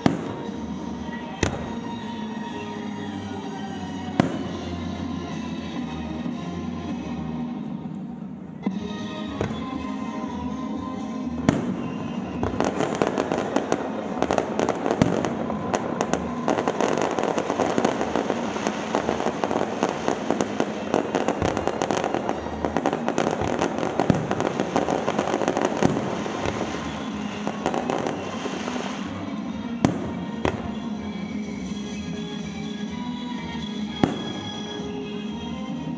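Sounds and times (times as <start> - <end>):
fireworks bangs and crackles: 0.0 - 35.9
music: 0.0 - 35.9.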